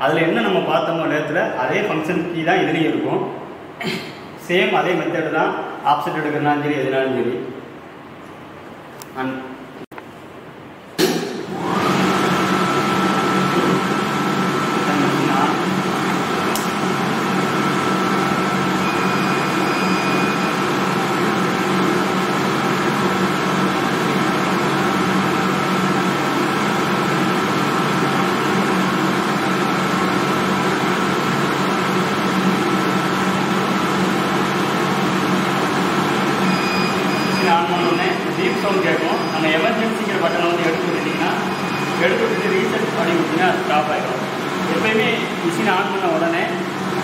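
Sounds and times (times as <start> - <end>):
milling machine hum with whine: 0.0 - 47.0.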